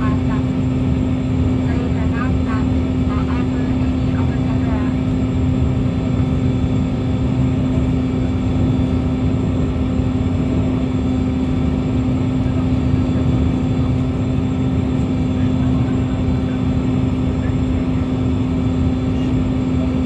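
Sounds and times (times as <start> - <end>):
gas-turbine engines droning: 0.0 - 20.0.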